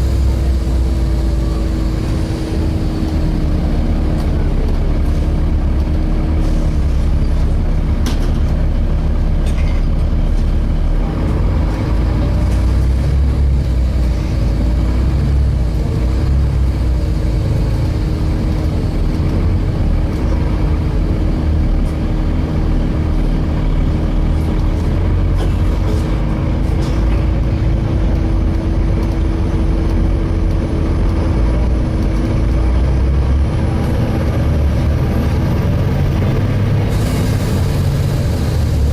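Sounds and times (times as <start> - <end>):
bus engine and road drone: 0.0 - 38.9
constant hum: 0.0 - 38.9.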